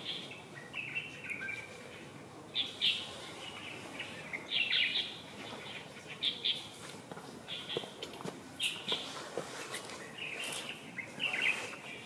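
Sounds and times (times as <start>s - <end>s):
small birds chirping: 0.0s - 6.8s, 7.4s - 12.0s
outdoor background hiss: 0.0s - 12.0s.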